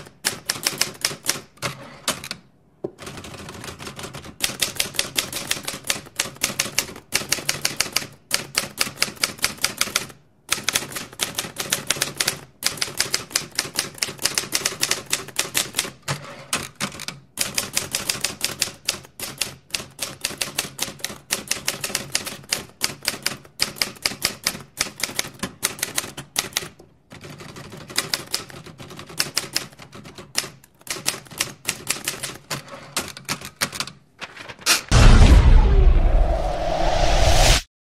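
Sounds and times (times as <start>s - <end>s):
typewriter keys clicking: 0.0s - 2.4s, 3.0s - 34.8s.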